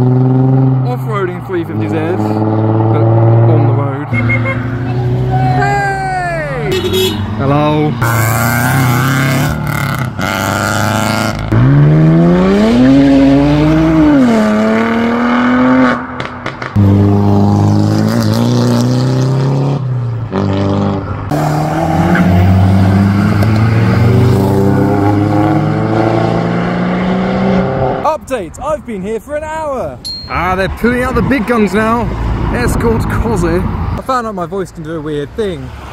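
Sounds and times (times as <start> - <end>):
cars accelerating past: 0.0 - 5.8, 6.4 - 28.1, 30.8 - 34.0
engines revving: 0.0 - 28.8.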